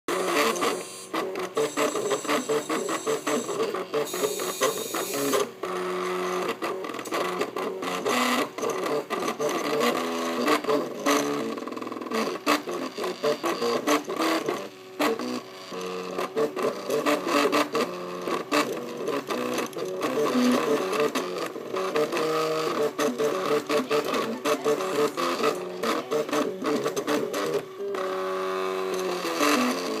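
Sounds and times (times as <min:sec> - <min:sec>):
small motorised machine running: 0:00.1 - 0:30.0.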